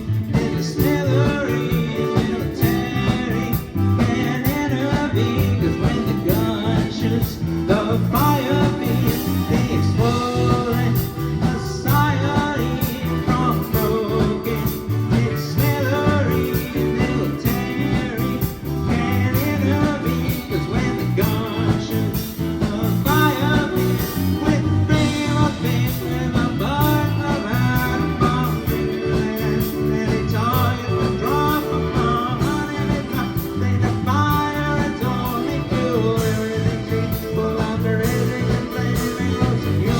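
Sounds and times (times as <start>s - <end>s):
electric guitar: 0.0s - 39.9s
live blues-rock band playing: 0.0s - 39.9s.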